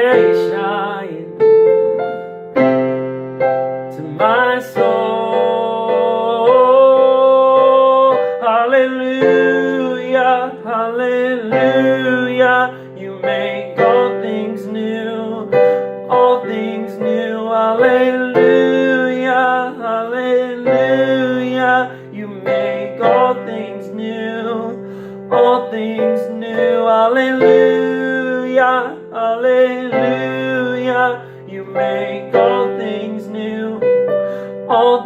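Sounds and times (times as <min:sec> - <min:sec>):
man singing: 0:00.0 - 0:01.8, 0:03.9 - 0:35.0
piano chords: 0:00.0 - 0:35.0.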